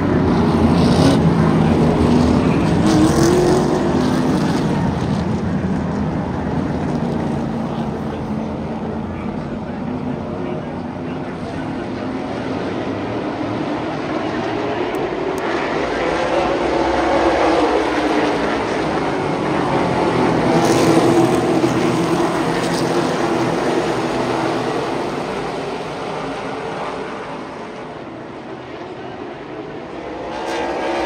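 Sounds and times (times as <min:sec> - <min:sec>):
race car engines: 0:00.0 - 0:31.0.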